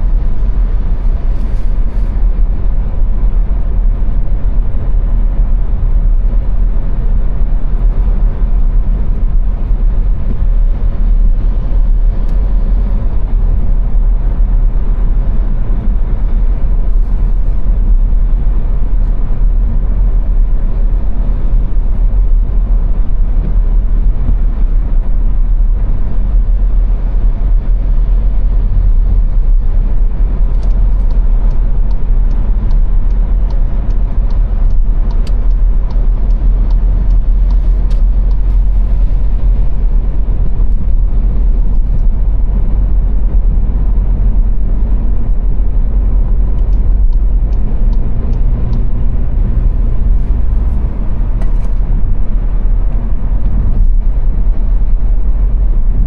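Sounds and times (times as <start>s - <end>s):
car driving at speed: 0.0s - 56.0s.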